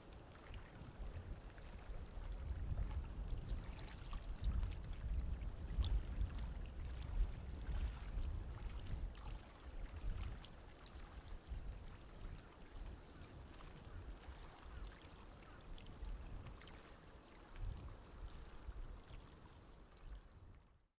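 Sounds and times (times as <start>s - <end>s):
wind rumble on microphone: 0.0s - 20.9s
water lapping among rocks: 0.3s - 19.8s.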